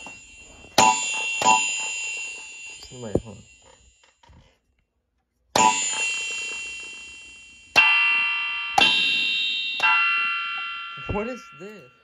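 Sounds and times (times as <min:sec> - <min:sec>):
electronic drum bell-like hits: 0:00.0 - 0:04.1, 0:05.6 - 0:12.0.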